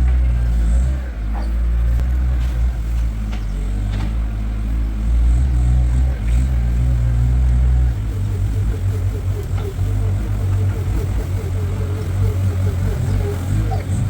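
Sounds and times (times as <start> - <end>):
loader knocks and rattles: 0.0 - 14.0
skid steer engine under load: 0.0 - 14.0.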